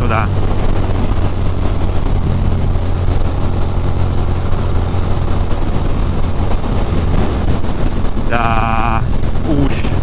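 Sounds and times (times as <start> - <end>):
motorcycle engine humming: 0.0 - 10.0
wind on microphone: 0.0 - 10.0.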